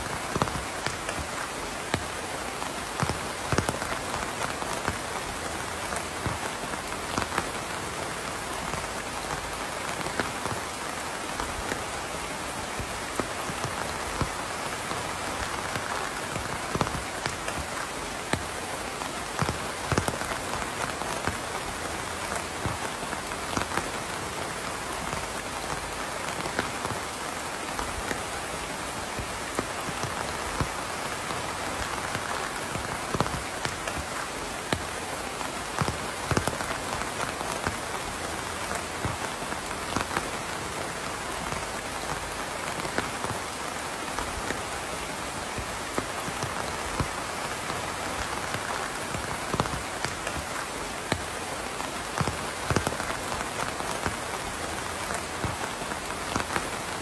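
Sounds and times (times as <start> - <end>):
raindrops striking close by: 0.0 - 57.0
steady rain hiss: 0.0 - 57.0.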